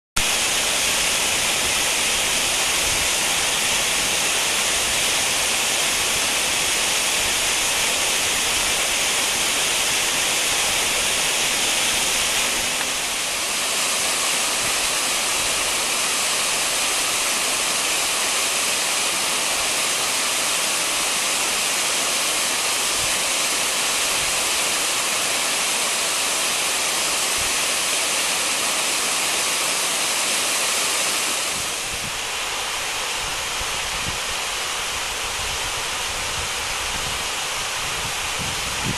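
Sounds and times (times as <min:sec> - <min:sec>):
waterfall rushing: 0:00.2 - 0:38.9.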